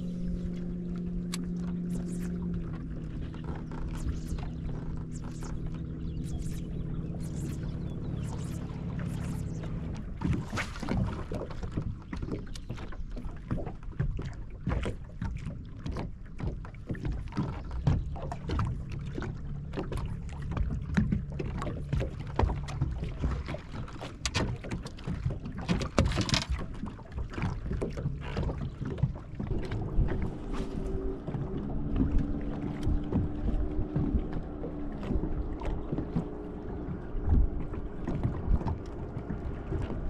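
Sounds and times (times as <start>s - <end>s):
outboard engine humming: 0.0s - 40.0s
small waves slapping boat hull: 0.0s - 40.0s.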